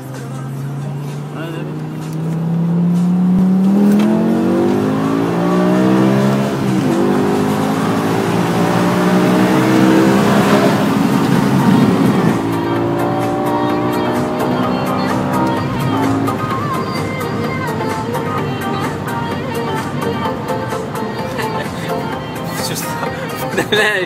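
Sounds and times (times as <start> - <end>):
car engine accelerating: 0.0 - 23.8.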